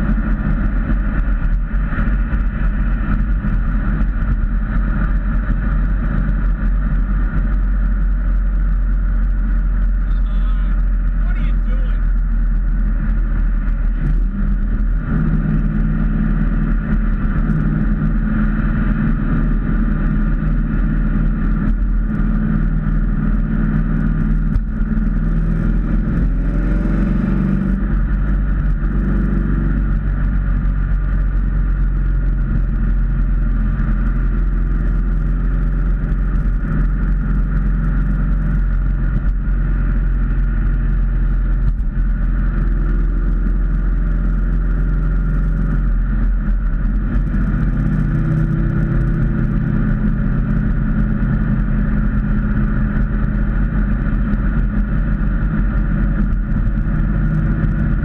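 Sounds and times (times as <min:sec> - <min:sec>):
car engine drone: 0:00.0 - 0:58.0
road rumble: 0:00.0 - 0:58.0.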